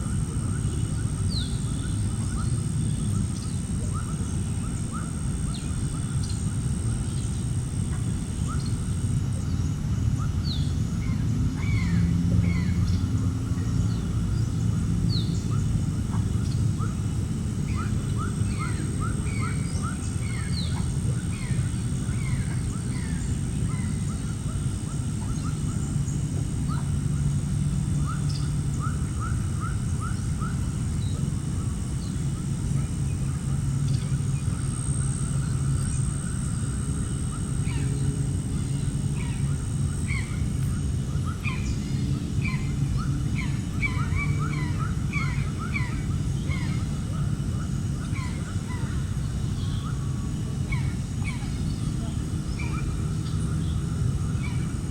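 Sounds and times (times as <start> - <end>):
steady low rumble: 0.0 - 54.9
birds chirping: 0.1 - 54.9.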